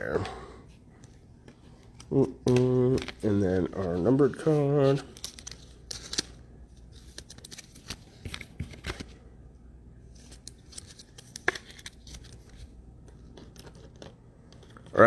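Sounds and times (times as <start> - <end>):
cards clicking and rustling: 0.9 - 9.2, 10.1 - 15.0.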